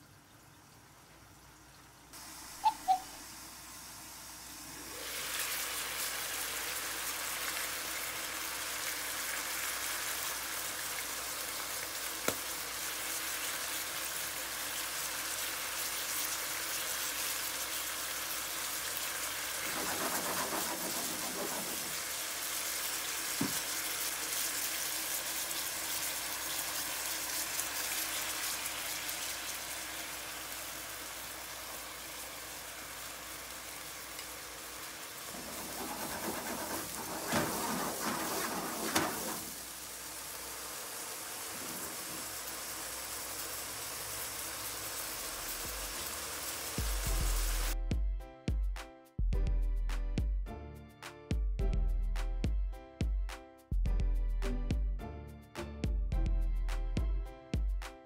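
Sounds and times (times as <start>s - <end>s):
meat rolls sizzling in a pan: 0.7s - 47.8s.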